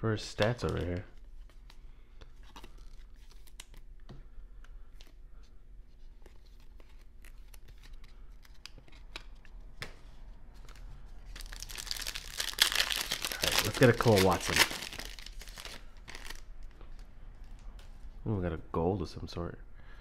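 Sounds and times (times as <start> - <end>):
trading cards rustling: 0.3 - 3.9, 4.5 - 18.0.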